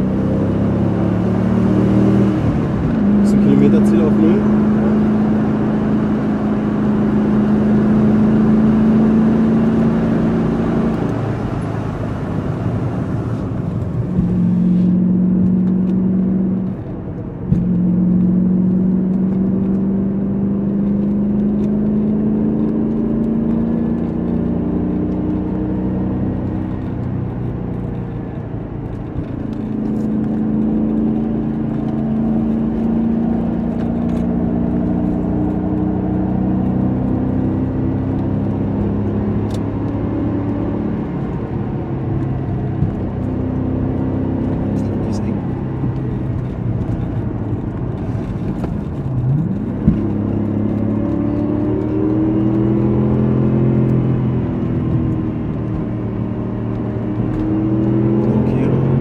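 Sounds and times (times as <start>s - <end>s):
car engine from inside cabin: 0.0s - 59.0s.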